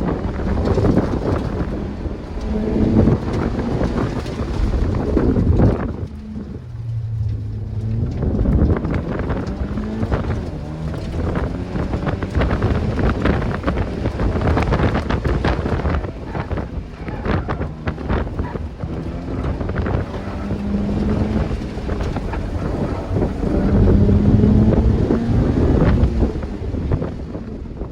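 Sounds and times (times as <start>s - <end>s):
car engine revving: 0.0s - 27.9s
wind buffeting microphone: 0.0s - 27.9s.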